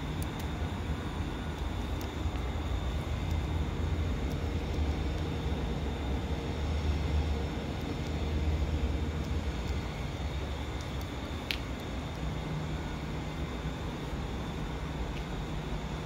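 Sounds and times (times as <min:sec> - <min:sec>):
faint high-pitched whine: 0:00.0 - 0:16.0
steady low hum: 0:00.0 - 0:16.0.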